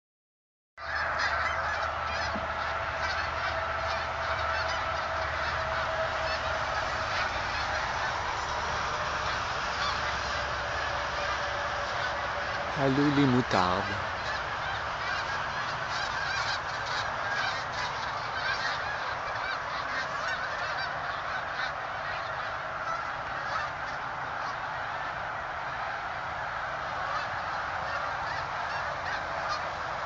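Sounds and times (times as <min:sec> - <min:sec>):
geese honking: 0:00.8 - 0:30.0.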